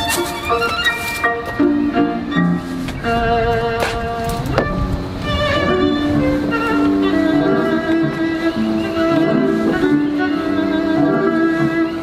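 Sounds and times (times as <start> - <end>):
strings: 0.0 - 12.0
violin playing long notes: 0.0 - 12.0.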